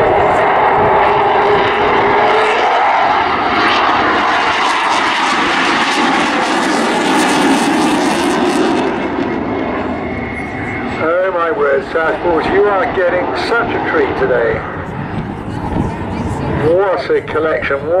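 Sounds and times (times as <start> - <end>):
aircraft engines droning overhead: 0.0 - 18.0.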